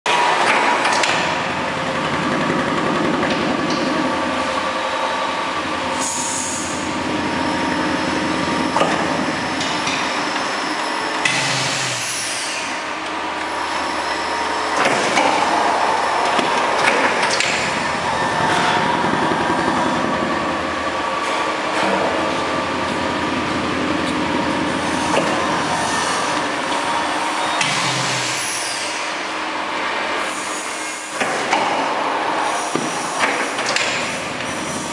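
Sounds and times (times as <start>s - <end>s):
packing machine running: 0.1s - 34.9s.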